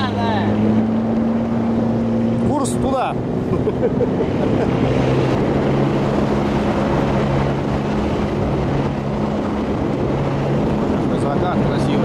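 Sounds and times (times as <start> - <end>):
outboard motor droning: 0.0 - 12.0
wind and water rushing: 0.0 - 12.0.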